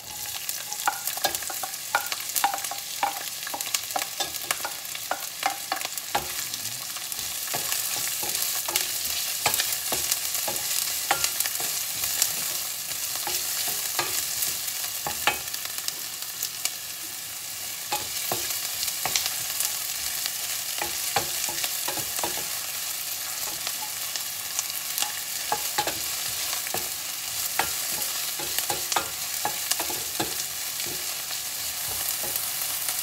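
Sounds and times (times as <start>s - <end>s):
garlic and onion sizzling in oil: 0.0s - 33.0s.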